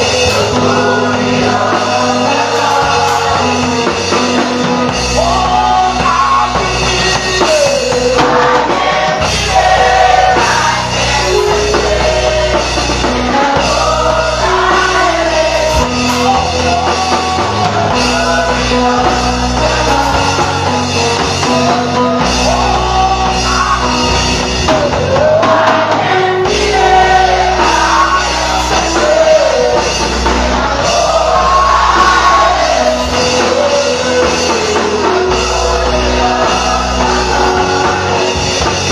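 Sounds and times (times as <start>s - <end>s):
gospel band with singing: 0.0s - 38.9s.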